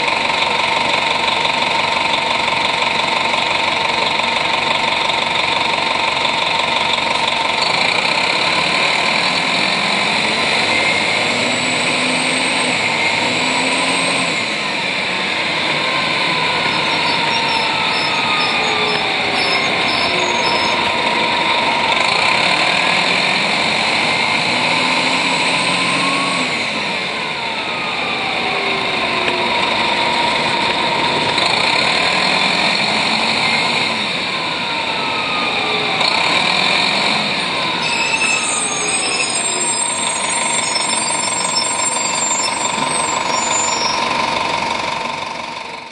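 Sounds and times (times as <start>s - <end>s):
bus engine idling: 0.0s - 45.9s.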